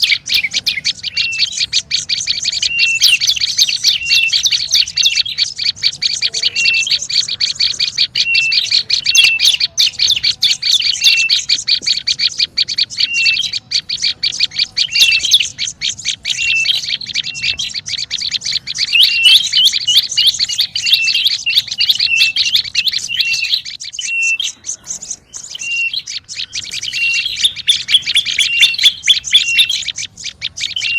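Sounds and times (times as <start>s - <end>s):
bird chattering sharp chirps: 0.0s - 30.9s.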